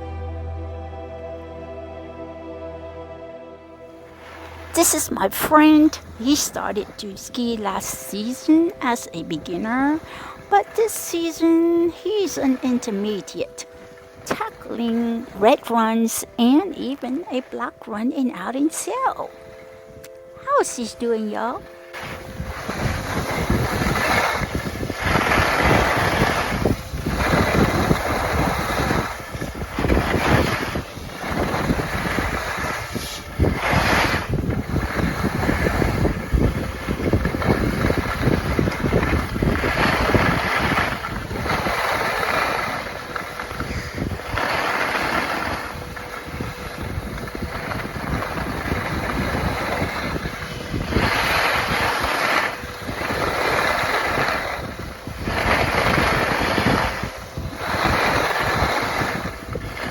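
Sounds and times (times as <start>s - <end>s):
wind rushing across microphone: 4.0s - 15.4s, 19.1s - 59.9s.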